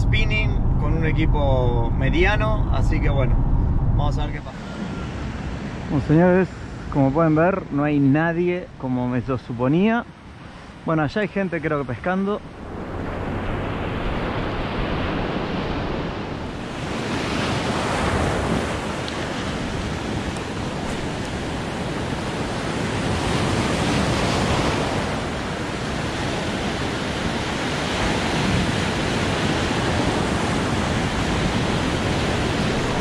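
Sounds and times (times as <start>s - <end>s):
wind buffeting microphone: 0.0s - 7.9s, 12.4s - 33.0s
ocean surf breaking: 0.0s - 33.0s.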